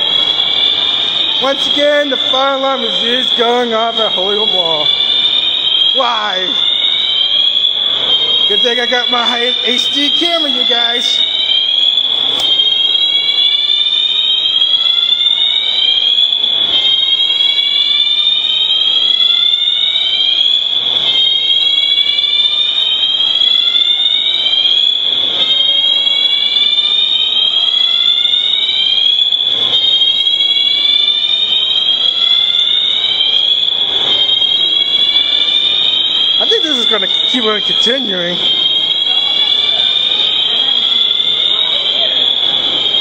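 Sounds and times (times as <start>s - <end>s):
fire alarm whooping: 0.0s - 43.0s.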